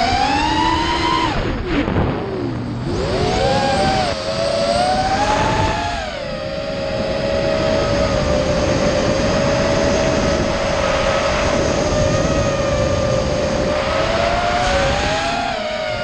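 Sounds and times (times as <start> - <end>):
drone motors whining: 0.0 - 16.0
rushing wind noise: 0.0 - 16.0.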